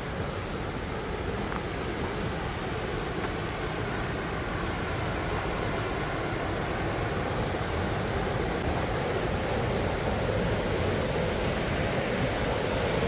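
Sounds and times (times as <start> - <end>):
river water pouring over rocks: 0.0 - 13.0.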